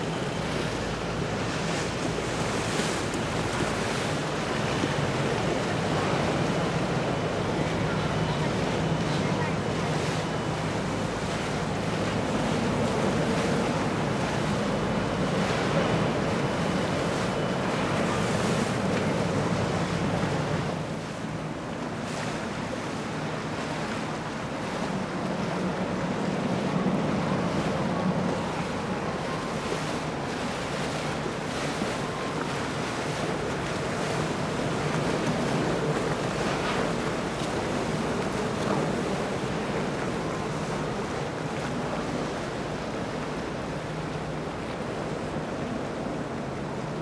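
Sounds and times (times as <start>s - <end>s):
boat engine drone: 0.0s - 47.0s
water rushing along hulls: 0.0s - 47.0s.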